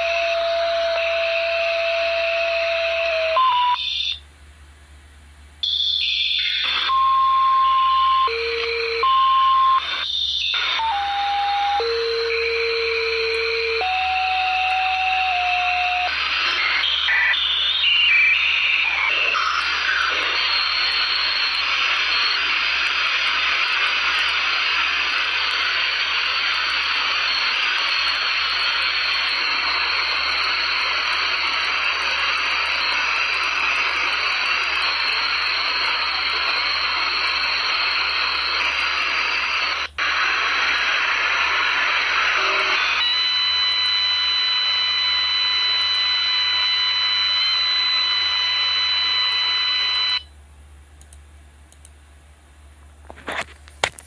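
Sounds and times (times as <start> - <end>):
radio static hiss: 0.0 - 4.2, 5.6 - 50.2, 53.0 - 54.0
steady whistle tones: 6.0 - 50.3.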